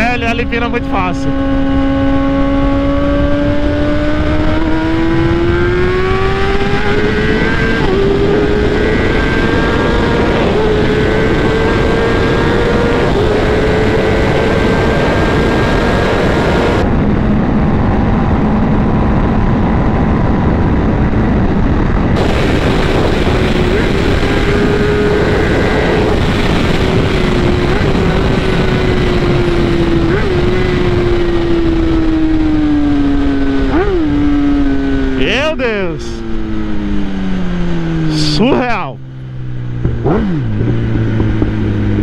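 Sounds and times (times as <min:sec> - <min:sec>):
heavy wind rush: 0:00.0 - 0:42.0
motorcycle engine accelerating: 0:00.0 - 0:42.0.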